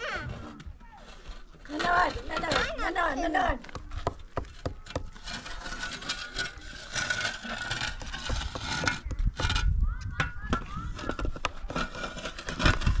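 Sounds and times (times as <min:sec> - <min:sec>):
scraping and rubbing: 0:00.0 - 0:13.0.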